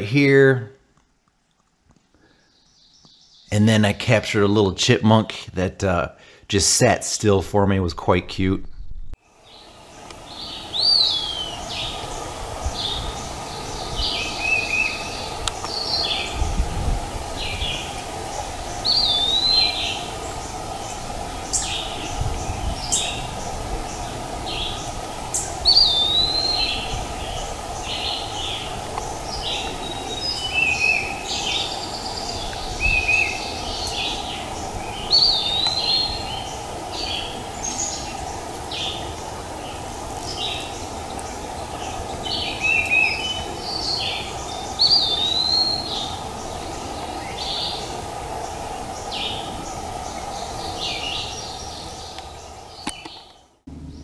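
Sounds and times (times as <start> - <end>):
steady background noise: 3.0 - 54.0.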